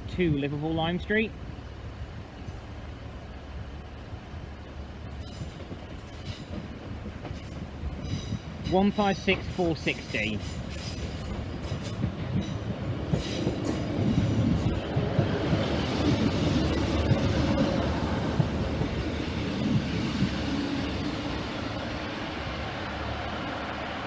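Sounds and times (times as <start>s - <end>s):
train engine rumble: 0.0s - 24.0s
train wheels on rails: 0.1s - 24.0s.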